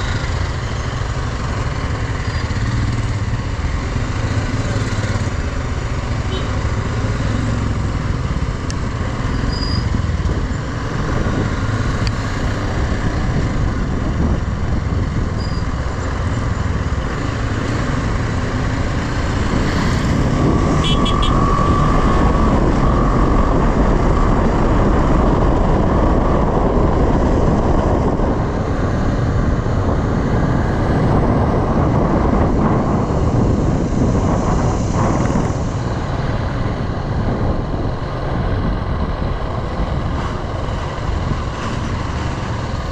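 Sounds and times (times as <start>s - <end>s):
motorcycle engine running: 0.0s - 42.9s
wind and road noise: 0.0s - 42.9s.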